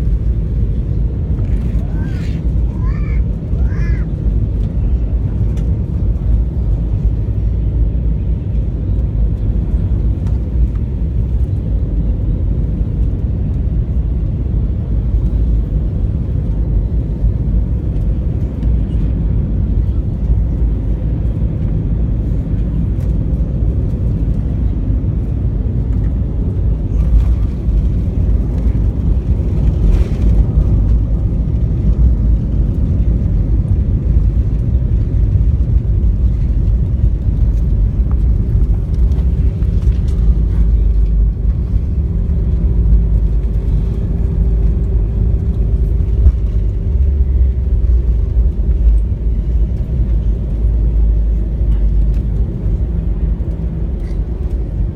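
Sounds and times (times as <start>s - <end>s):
airliner cabin engine rumble: 0.0s - 54.9s.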